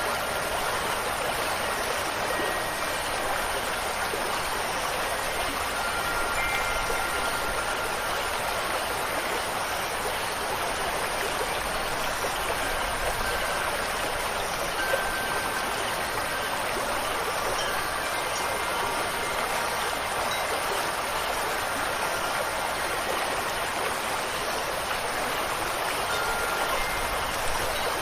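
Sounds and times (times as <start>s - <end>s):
running water rushing: 0.0s - 28.0s
wind chime tones: 0.0s - 28.0s.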